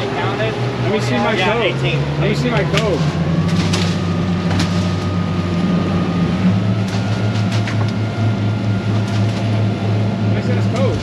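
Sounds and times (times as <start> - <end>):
faint whine: 0.0 - 11.0
outboard motors running: 0.0 - 11.0.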